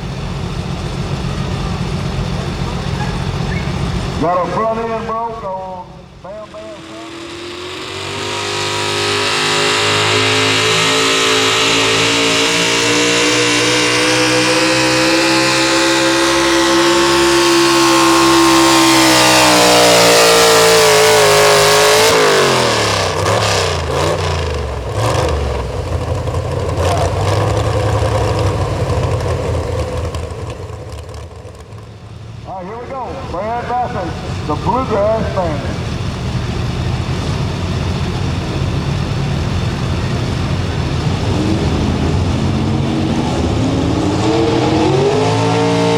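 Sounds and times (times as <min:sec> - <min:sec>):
engine knocks and rattles: 0:00.0 - 0:45.4
truck engine at high revs: 0:00.0 - 0:45.9.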